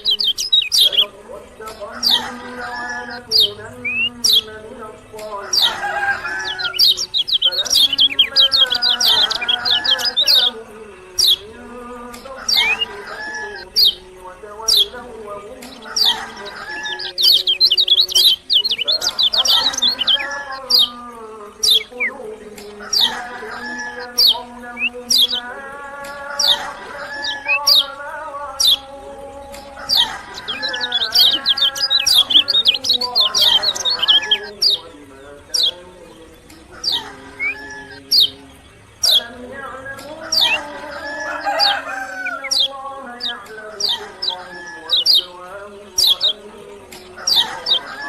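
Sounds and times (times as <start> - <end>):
lower wavering bird calls: 0.0 - 48.0
songbird chirping and trilling: 0.0 - 48.0.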